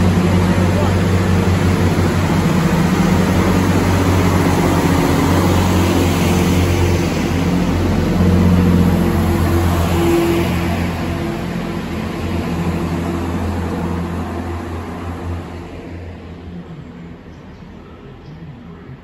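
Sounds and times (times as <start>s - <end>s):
diesel train engines droning: 0.0s - 19.0s.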